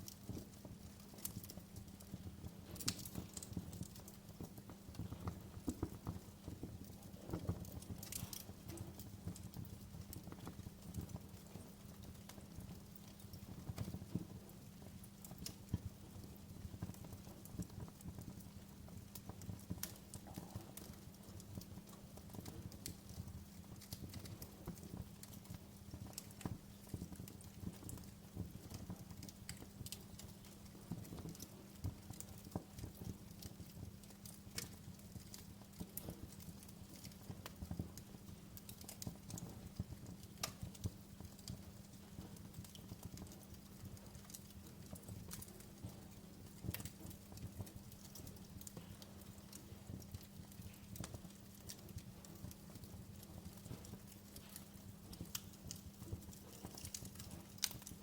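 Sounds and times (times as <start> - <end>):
low rumble of burning: 0.0 - 58.0
wood fire crackling and popping: 0.0 - 58.0.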